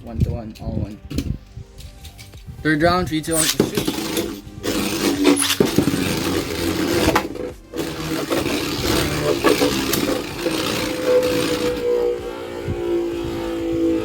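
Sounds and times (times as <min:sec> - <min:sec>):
spinning tops whirring and scraping: 0:00.6 - 0:14.0.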